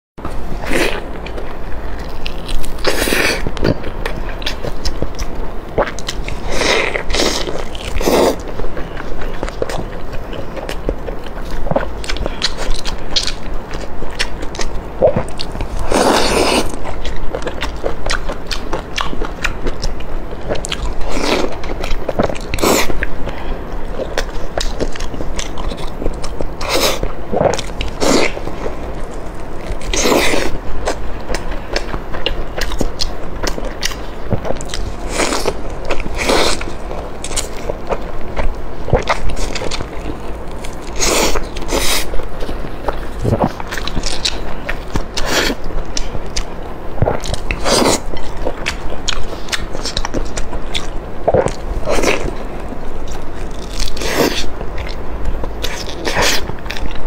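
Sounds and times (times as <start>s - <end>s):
woman biting and chewing: 0.2s - 57.0s.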